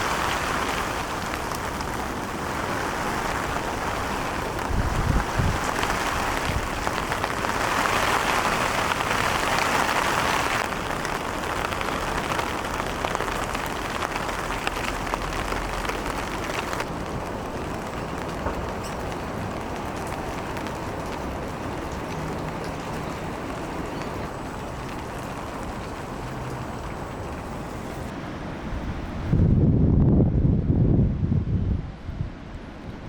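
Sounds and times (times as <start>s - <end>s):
ocean waves breaking: 0.0s - 29.4s.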